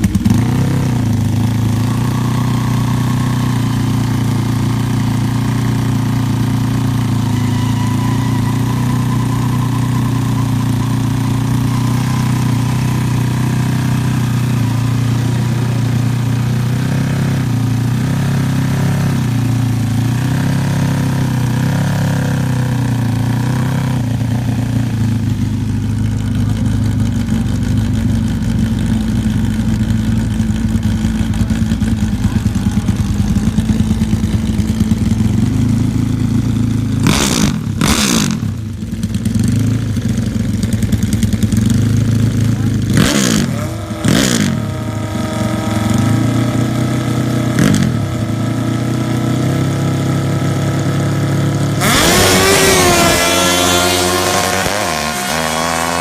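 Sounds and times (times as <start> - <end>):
motorcycle engines idling: 0.0 - 56.0.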